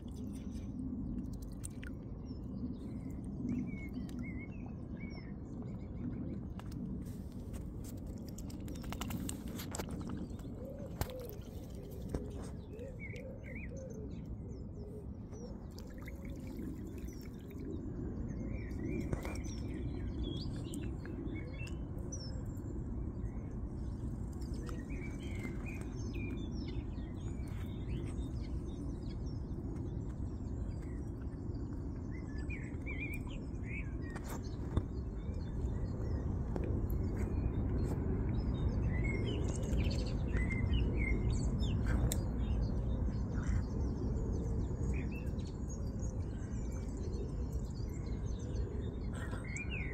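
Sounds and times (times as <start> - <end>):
small birds chirping: 7.4 - 49.9.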